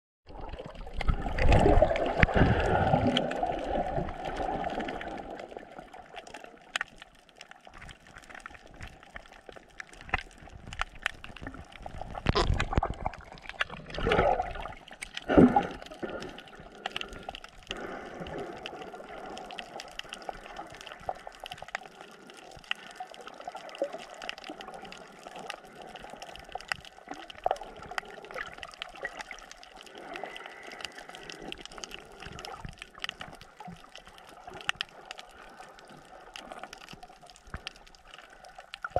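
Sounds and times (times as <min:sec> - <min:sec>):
underwater water sloshing: 0:00.3 - 0:38.9.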